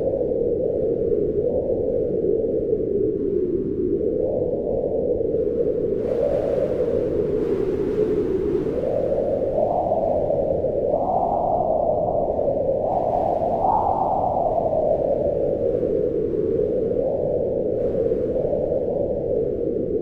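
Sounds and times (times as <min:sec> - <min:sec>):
wind howling and whistling: 0:00.0 - 0:20.0.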